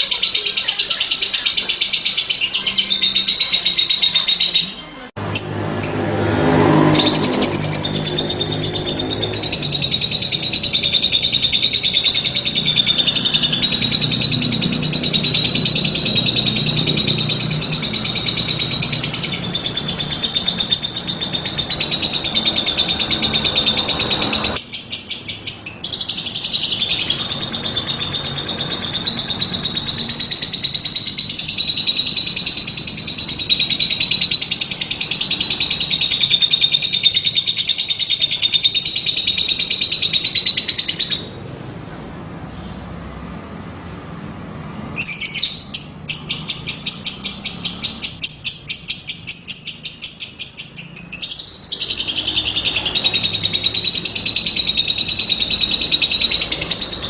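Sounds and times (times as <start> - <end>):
lovebird twittering chatter: 0.0 - 6.0, 6.6 - 41.8, 44.7 - 57.0.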